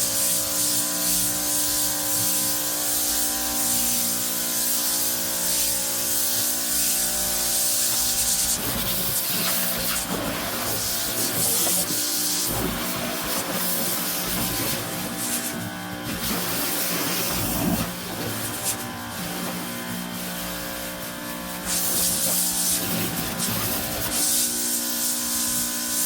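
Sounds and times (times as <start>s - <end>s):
water spraying onto deck: 0.0s - 26.0s.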